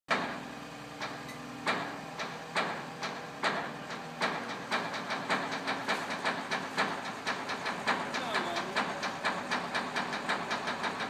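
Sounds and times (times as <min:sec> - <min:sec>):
crane engine hum: 0:00.1 - 0:11.0.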